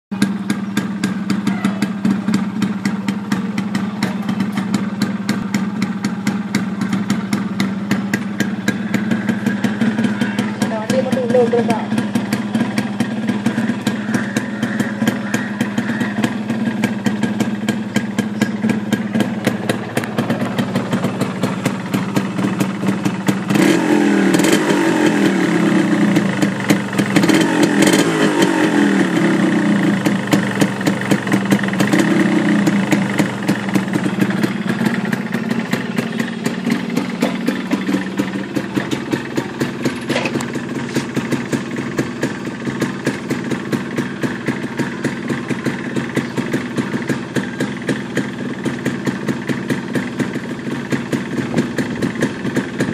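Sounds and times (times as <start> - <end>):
motorcycle engine idling and revving: 0.1 - 52.9.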